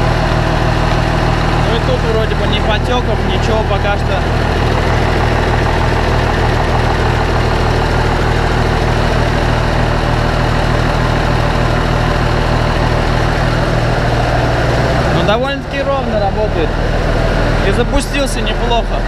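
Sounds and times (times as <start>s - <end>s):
tractor diesel engine idling: 0.0s - 19.0s.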